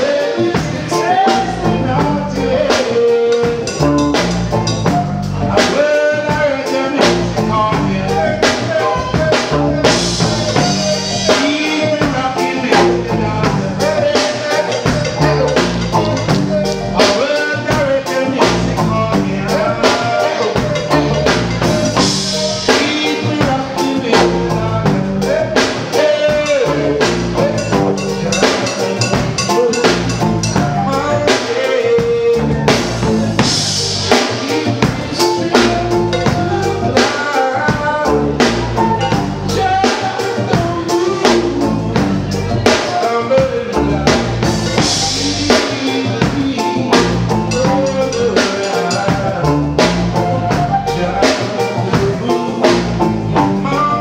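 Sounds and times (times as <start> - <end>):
bass line: 0.0 - 54.0
drum kit rimshots and bass drum: 0.0 - 54.0
live reggae band playing: 0.0 - 54.0.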